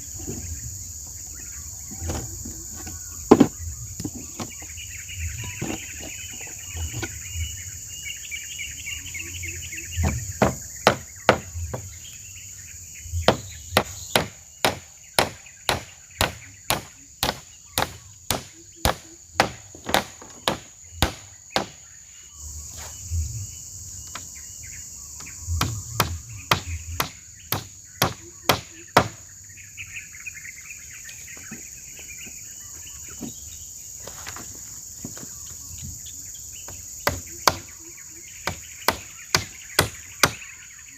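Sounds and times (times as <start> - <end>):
birds chirping: 0.0 - 40.9
insects droning: 0.0 - 40.9.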